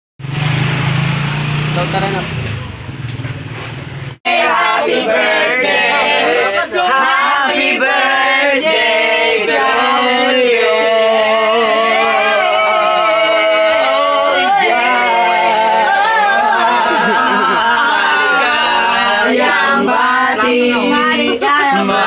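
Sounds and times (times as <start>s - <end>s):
group singing loudly: 4.2s - 22.0s.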